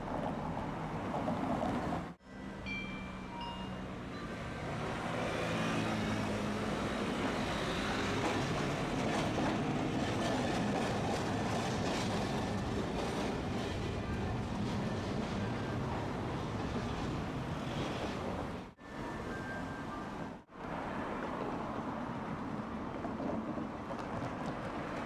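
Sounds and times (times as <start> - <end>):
wheel on rail noise: 0.0 - 25.0.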